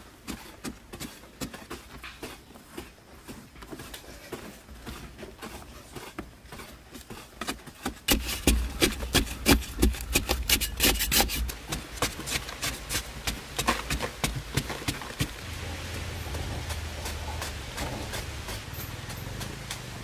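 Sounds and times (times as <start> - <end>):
digging tool scraping earth: 0.0 - 20.0.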